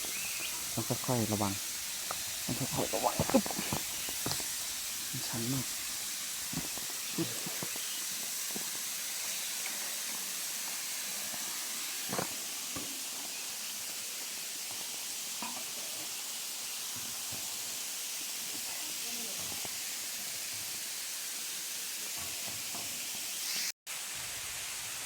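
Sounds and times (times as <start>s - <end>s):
waterfall rushing hiss: 0.0s - 25.0s.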